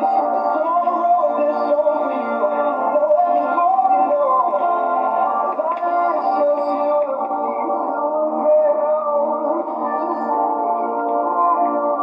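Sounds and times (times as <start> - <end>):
guitar accompaniment: 0.0 - 12.0
music with melody: 0.0 - 12.0.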